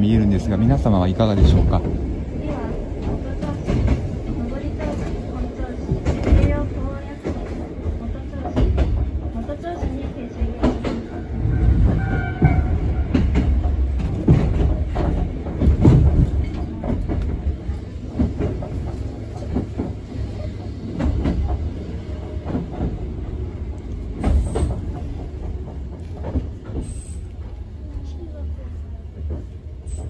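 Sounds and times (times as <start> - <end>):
train wheels and motors rumbling: 0.0 - 30.0
wheels clicking over rail joints: 1.3 - 30.0.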